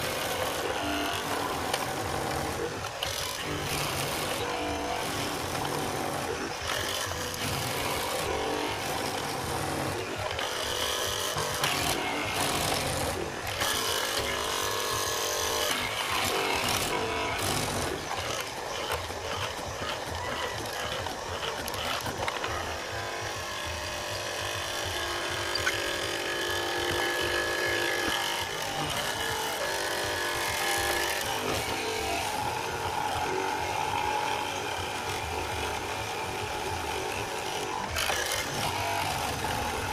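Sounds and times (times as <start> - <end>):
mortising machine boring wood: 0.0 - 39.9.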